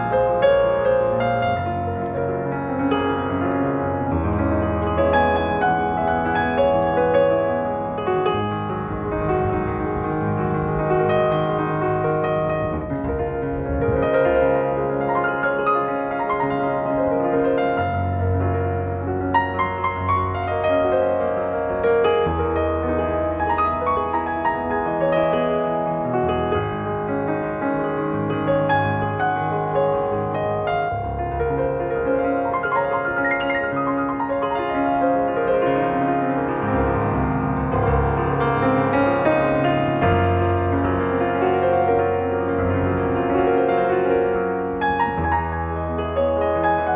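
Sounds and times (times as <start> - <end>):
slow gentle piano music: 0.0 - 46.9.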